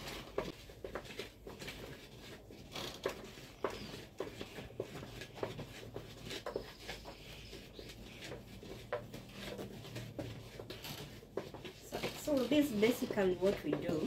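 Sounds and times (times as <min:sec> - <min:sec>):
stick scraping inside hollow gourd: 0:00.0 - 0:14.0.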